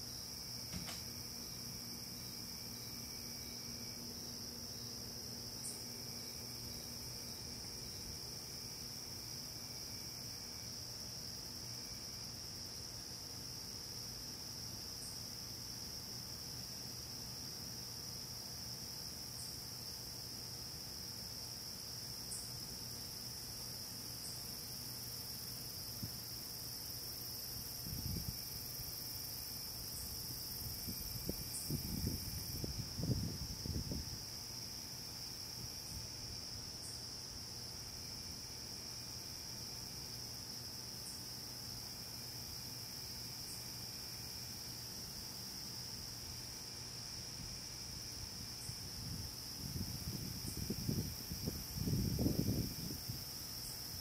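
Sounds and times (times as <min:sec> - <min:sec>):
faint high-pitched hiss: 0:00.0 - 0:54.0
night insects trilling: 0:00.0 - 0:54.0.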